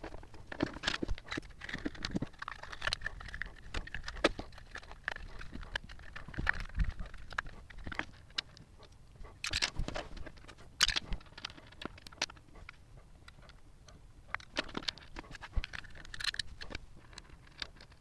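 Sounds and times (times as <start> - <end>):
plastic and metal parts clicking: 0.0 - 18.0.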